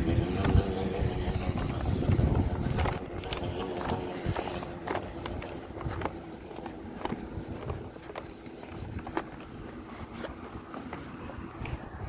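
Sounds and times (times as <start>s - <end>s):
footsteps on pavement: 0.0s - 12.0s
low outdoor rumble: 0.0s - 12.0s.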